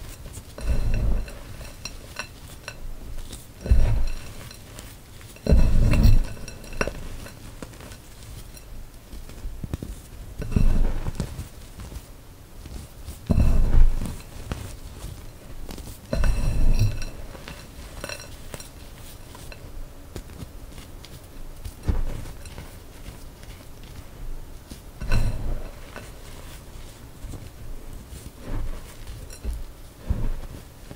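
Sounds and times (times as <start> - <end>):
hands squeezing powdery chalk: 0.0 - 30.9
light crackling: 0.0 - 30.9.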